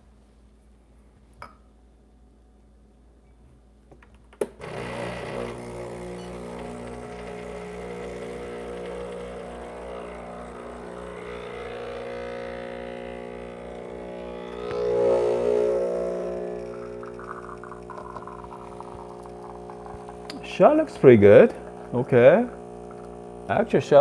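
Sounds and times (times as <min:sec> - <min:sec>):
espresso machine pump droning: 0:04.6 - 0:24.0.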